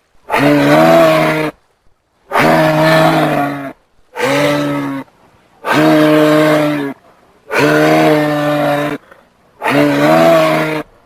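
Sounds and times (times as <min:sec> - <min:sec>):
giraffe calling: 0:00.3 - 0:01.6, 0:02.3 - 0:10.9.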